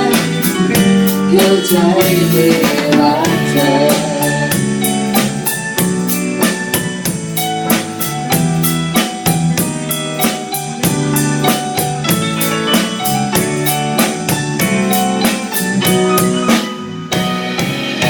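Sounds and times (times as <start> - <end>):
drum kit beat: 0.0 - 18.0
sustained band chords: 0.0 - 18.0.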